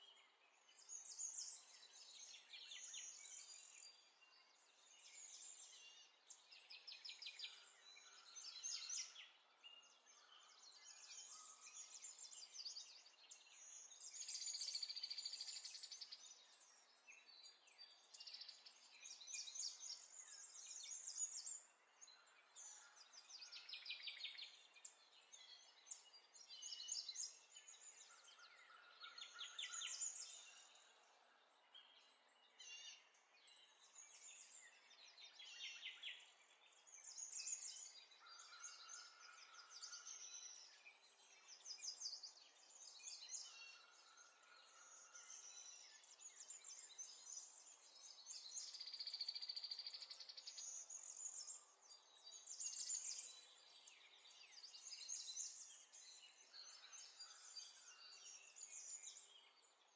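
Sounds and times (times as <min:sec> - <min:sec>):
birds chirping and trilling: 0:00.7 - 0:59.9.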